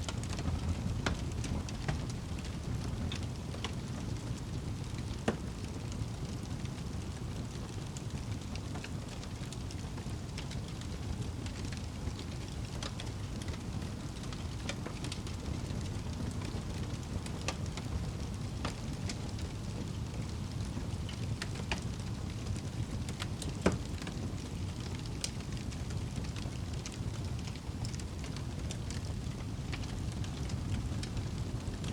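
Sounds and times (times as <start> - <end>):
fire crackling and popping: 0.0 - 31.9
wood fire rushing flames: 0.0 - 31.9.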